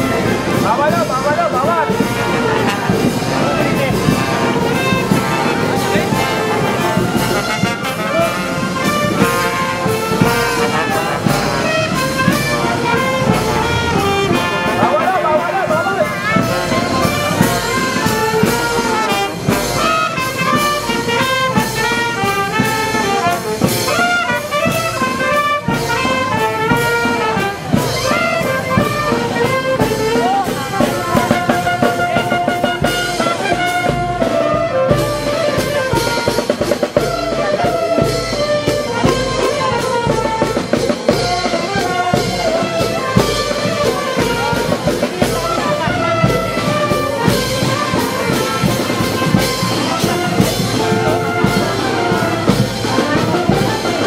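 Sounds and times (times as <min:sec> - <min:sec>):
drums keeping a steady beat: 0:00.0 - 0:54.0
marching brass band playing: 0:00.0 - 0:54.0.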